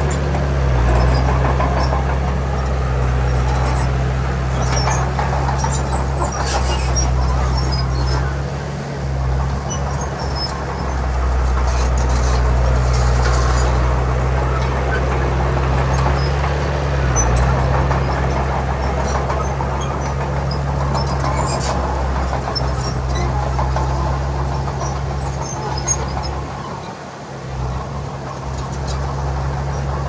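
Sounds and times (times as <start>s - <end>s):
heavy diesel engine droning: 0.0s - 30.0s.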